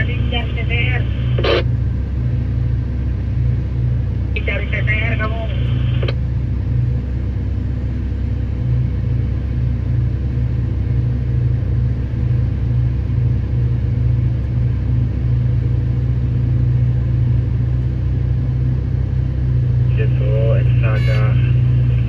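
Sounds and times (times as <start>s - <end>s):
excavator diesel engine droning: 0.0s - 22.0s.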